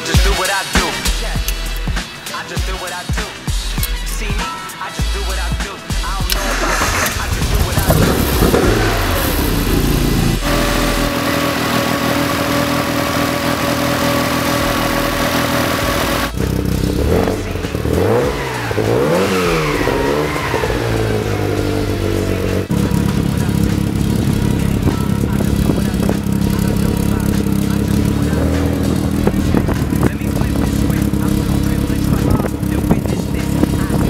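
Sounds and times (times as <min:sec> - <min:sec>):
car engine idling and revving: 0:00.0 - 0:02.1, 0:05.0 - 0:34.0.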